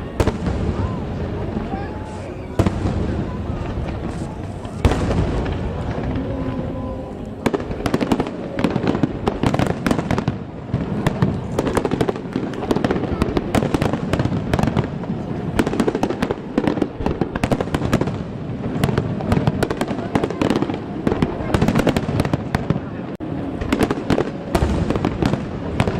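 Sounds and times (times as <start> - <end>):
continuous rumble: 0.0 - 25.9
fireworks bangs and crackles: 0.0 - 25.9.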